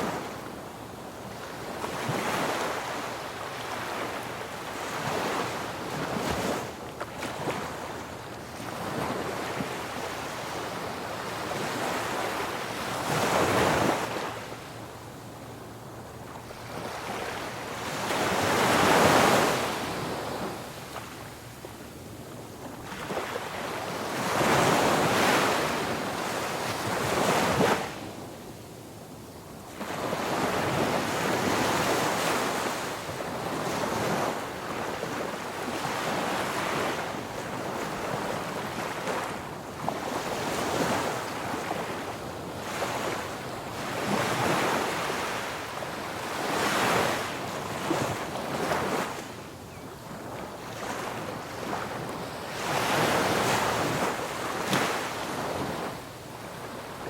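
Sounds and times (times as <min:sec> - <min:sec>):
ocean waves breaking on beach: 0:00.0 - 0:14.9, 0:15.5 - 0:21.4, 0:22.6 - 0:28.2, 0:29.6 - 0:57.0.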